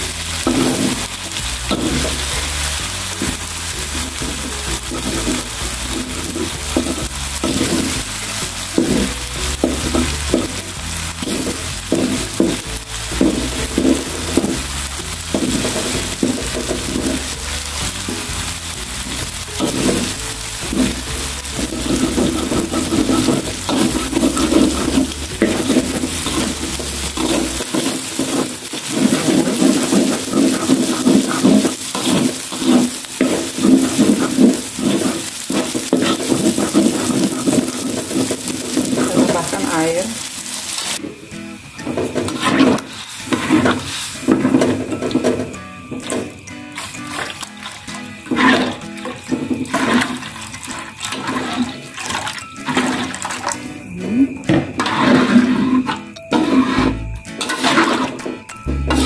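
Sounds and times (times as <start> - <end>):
metal spatula scraping wok: 0.0 - 41.2, 41.8 - 59.0
eggs sizzling in hot oil: 0.0 - 59.0.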